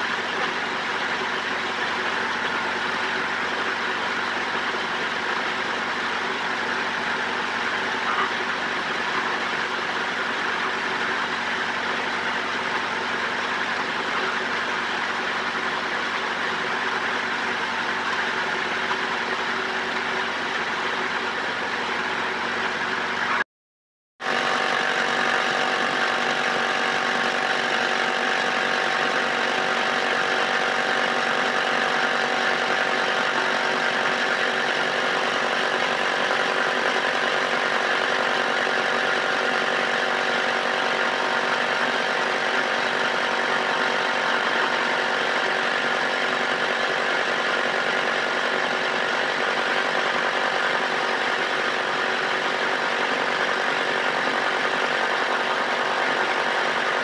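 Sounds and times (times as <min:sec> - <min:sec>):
motor running steadily: 0:00.0 - 0:23.4, 0:24.2 - 0:57.0.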